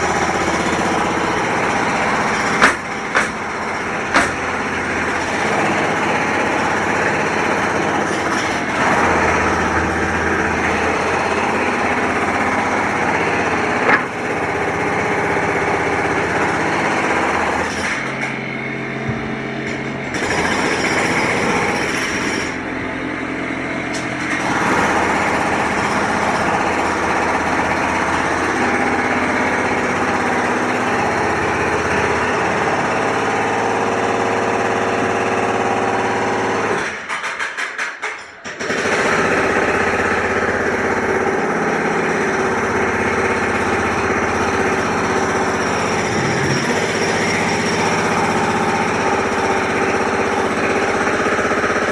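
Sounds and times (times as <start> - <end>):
machinery engines running: 0.0 - 51.9.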